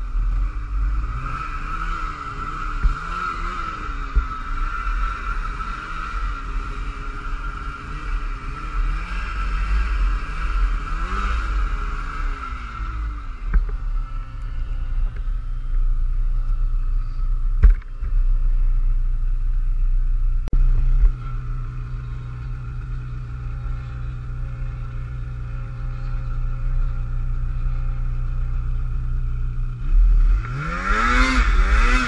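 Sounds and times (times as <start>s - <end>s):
snowmobile engine revving: 0.0s - 18.7s, 20.6s - 32.0s.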